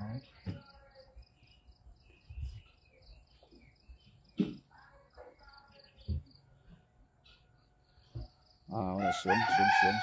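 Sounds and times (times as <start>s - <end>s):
faint bird chirps: 0.0s - 9.0s.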